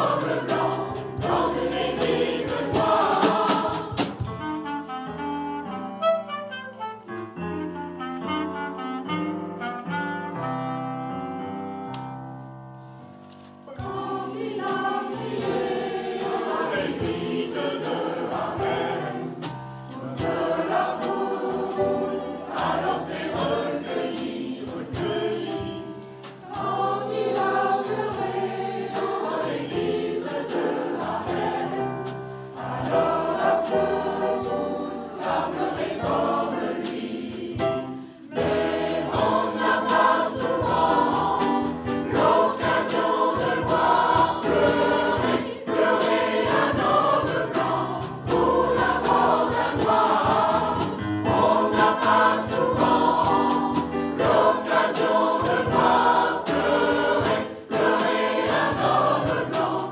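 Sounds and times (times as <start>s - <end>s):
mixed choir singing: 0.0s - 4.9s, 13.7s - 59.9s.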